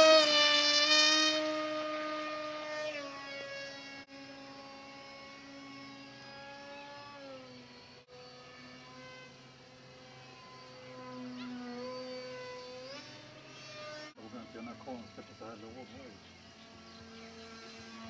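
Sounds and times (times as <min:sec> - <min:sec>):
model plane motor whining: 0:00.0 - 0:18.0.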